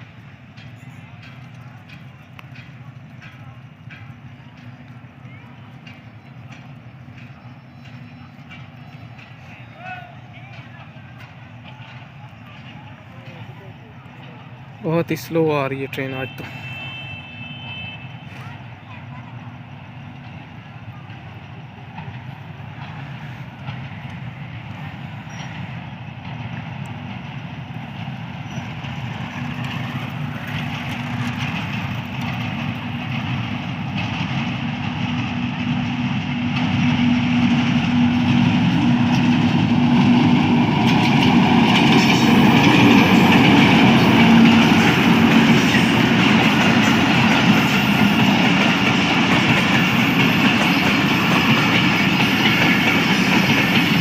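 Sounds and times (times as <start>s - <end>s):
diesel locomotive engine note: 0.0s - 54.0s
wheels rumbling on rails: 0.0s - 54.0s.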